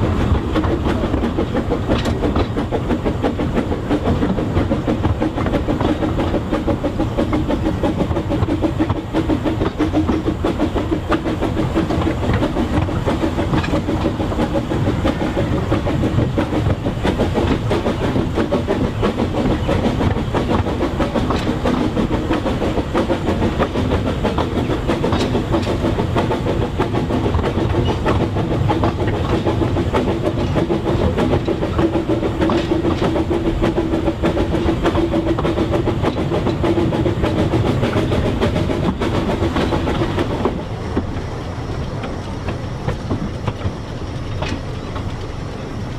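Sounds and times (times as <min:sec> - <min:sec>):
steam train running: 0:00.0 - 0:45.9
wheel on rail clatter: 0:00.0 - 0:45.9.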